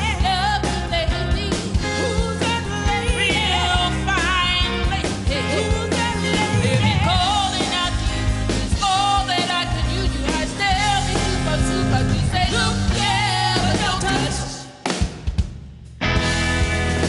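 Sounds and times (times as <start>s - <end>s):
bass guitar: 0.0s - 14.6s, 15.9s - 17.0s
women singing with vibrato: 0.0s - 14.9s
drums: 0.0s - 17.0s.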